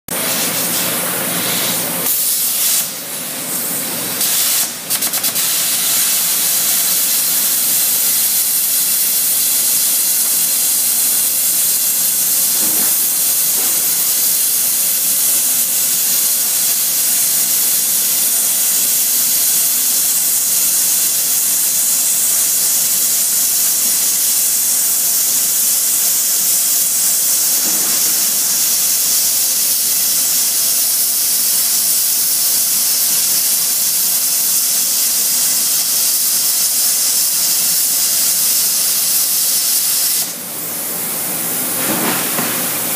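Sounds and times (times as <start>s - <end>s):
cutting torch hissing: 4.2s - 41.0s.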